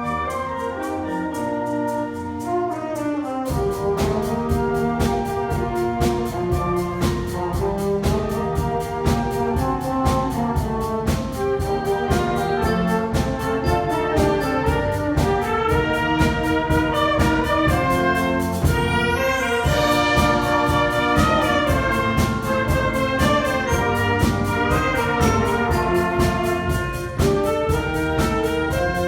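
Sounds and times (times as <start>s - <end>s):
wind band playing: 0.0s - 29.0s.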